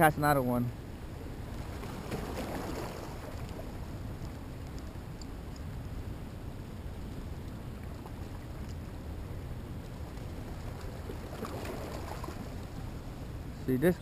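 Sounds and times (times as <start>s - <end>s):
river flowing past rocks: 0.0s - 14.0s
wind rumbling on microphone: 0.0s - 14.0s.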